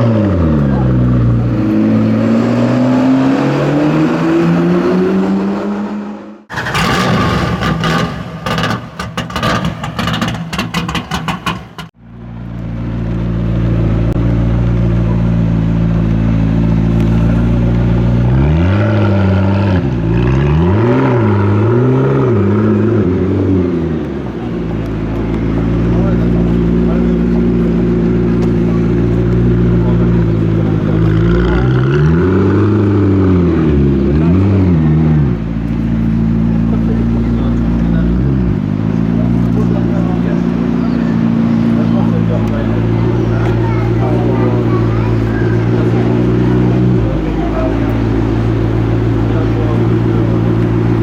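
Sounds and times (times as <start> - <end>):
car engine revving and idling: 0.0 - 51.0.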